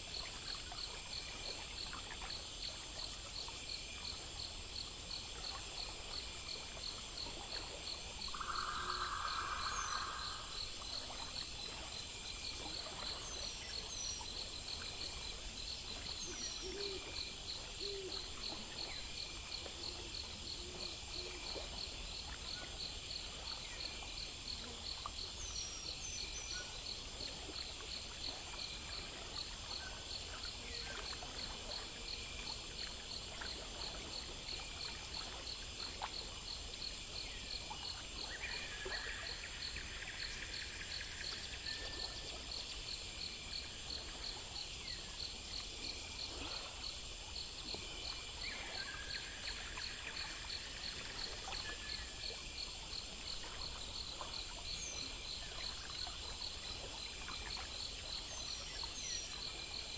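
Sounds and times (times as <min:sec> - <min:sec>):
constant high hiss: 0:00.0 - 0:59.9
crickets chirping: 0:00.0 - 0:59.9.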